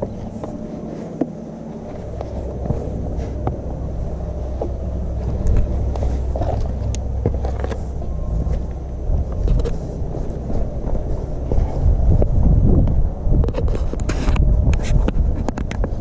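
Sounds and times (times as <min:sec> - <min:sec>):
footsteps on trail: 0:00.0 - 0:14.2
wind buffeting microphone: 0:00.0 - 0:16.0.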